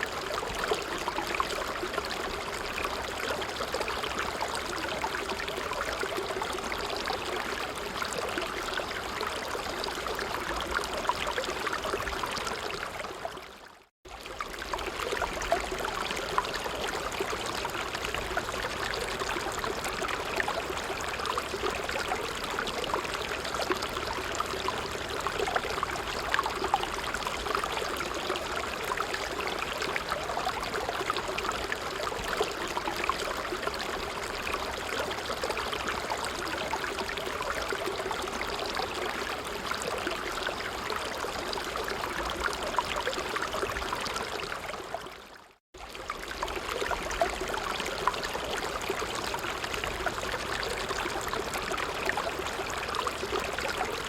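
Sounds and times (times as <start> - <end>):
stream trickling and gurgling: 0.0 - 54.0.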